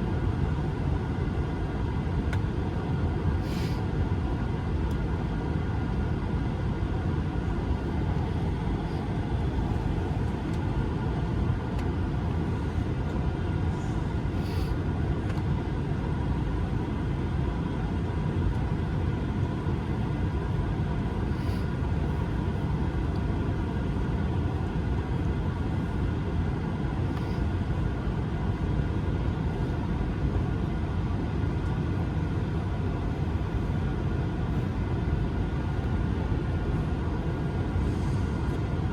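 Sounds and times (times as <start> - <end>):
jet engine rumble and whine: 0.0 - 38.9.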